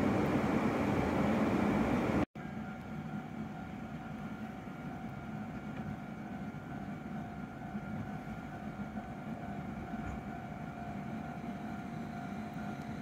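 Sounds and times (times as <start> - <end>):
electric train idling hum: 0.0 - 13.0
faint steady whine: 0.0 - 13.0.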